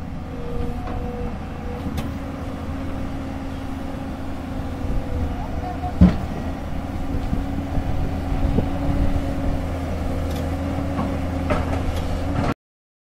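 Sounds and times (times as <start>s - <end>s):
excavator diesel engine running: 0.0s - 12.6s.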